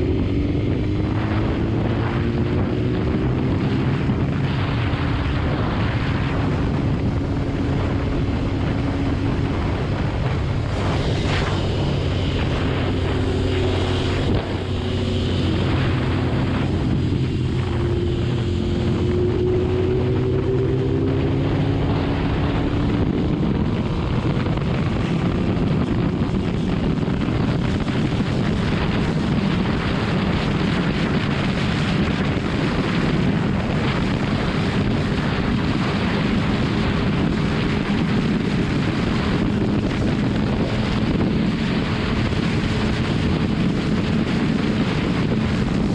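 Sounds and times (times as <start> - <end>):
motorcycle engine at speed: 0.0 - 45.9
wind rush on microphone: 0.0 - 45.9.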